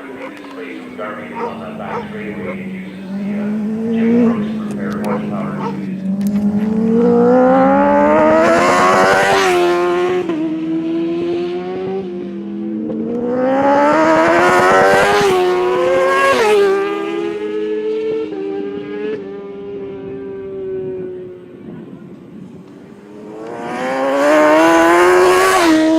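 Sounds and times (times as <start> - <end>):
motorcycle engine at full throttle: 0.0 - 25.9.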